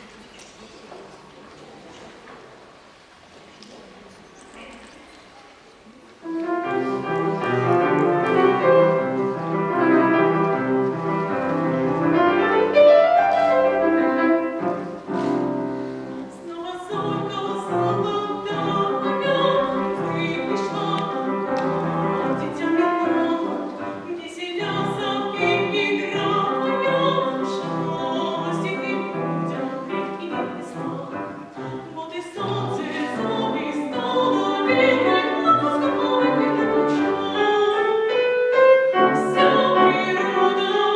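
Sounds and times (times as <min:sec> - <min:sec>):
piano accompaniment: 0:06.2 - 0:40.9.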